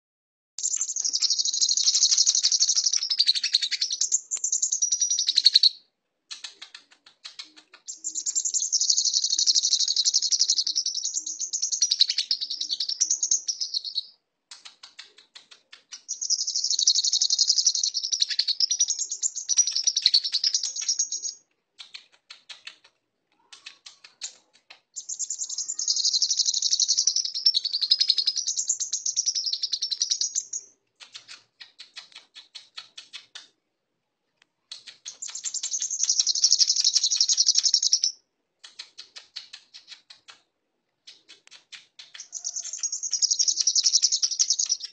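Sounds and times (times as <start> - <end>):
bird high rapid chattering: 0.6 - 33.5, 34.7 - 40.4, 41.0 - 44.9.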